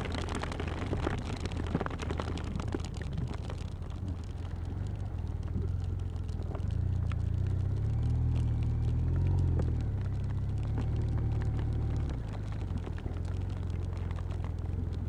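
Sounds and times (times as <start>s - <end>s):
raindrops ticking on helmet: 0.0s - 15.0s.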